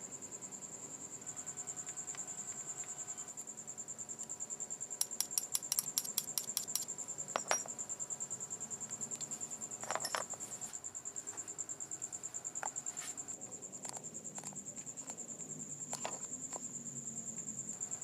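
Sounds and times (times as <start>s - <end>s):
cricket trilling: 0.0s - 18.0s.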